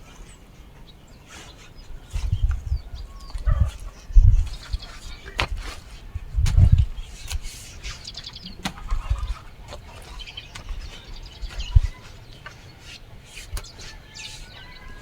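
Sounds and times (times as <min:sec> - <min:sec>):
chickens clucking: 0:00.0 - 0:15.0
small birds chirping: 0:00.0 - 0:15.0.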